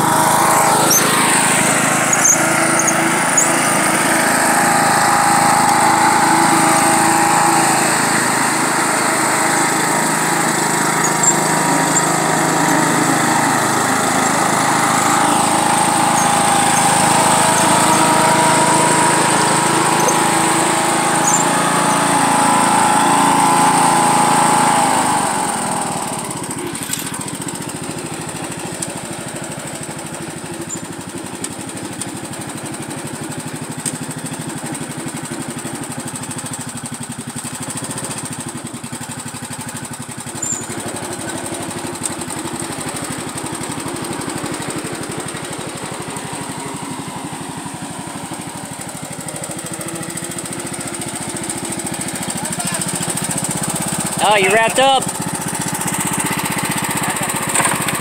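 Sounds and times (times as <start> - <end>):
riding lawn mower engine running: 0.0 - 58.0.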